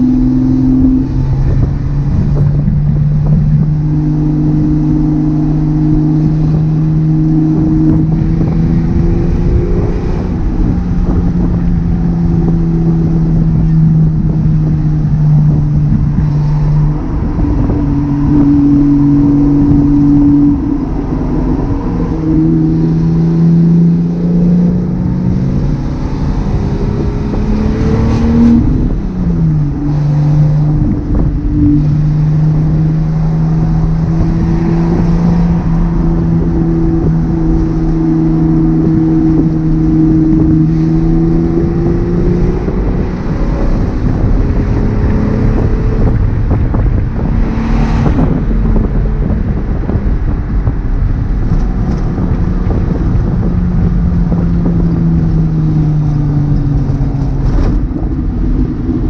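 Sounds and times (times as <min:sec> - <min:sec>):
car engine and exhaust running: 0:00.0 - 0:59.0.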